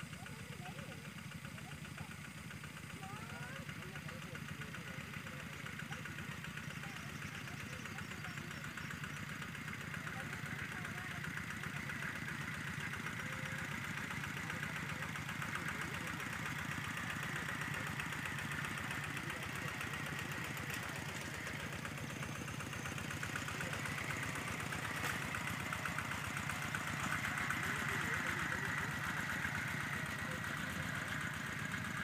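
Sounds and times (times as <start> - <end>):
tractor engine chugging: 0.0 - 32.0.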